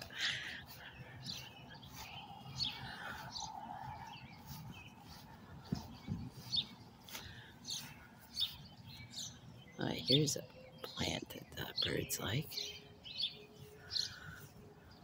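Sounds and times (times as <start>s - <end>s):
soft footsteps on grass: 0.0s - 11.2s, 11.8s - 15.0s
small birds chirping: 0.0s - 15.0s.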